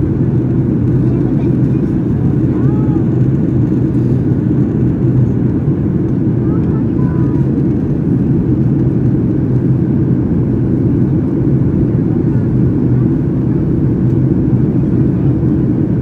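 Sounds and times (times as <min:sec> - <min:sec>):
airplane cabin drone: 0:00.0 - 0:16.0.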